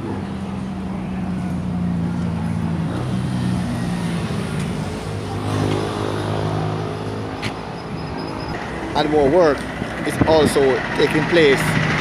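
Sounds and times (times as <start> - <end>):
road traffic: 0.0 - 12.0
vehicle engine drone: 0.0 - 12.0.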